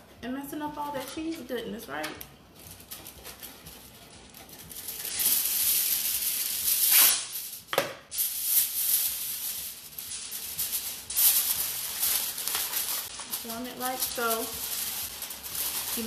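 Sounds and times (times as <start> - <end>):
aluminium foil tearing: 2.2 - 16.0
foil rustling and crinkling: 2.5 - 16.0.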